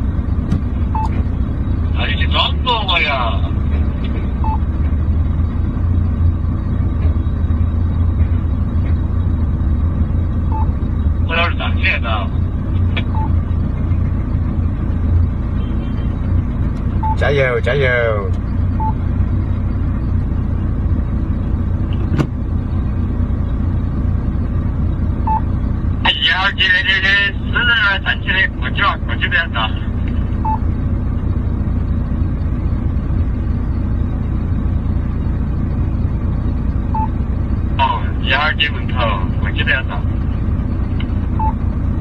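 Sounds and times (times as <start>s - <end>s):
diesel truck engine rumbling: 0.0s - 42.0s.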